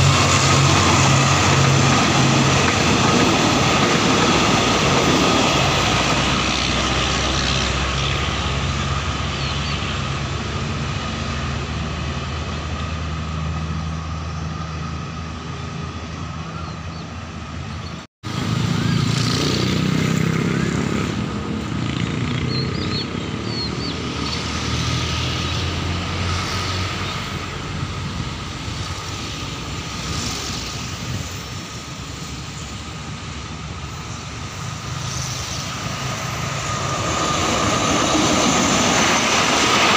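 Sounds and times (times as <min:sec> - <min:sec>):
diesel locomotive drone: 0:00.0 - 0:39.9
train coaches rumbling past: 0:00.0 - 0:39.9.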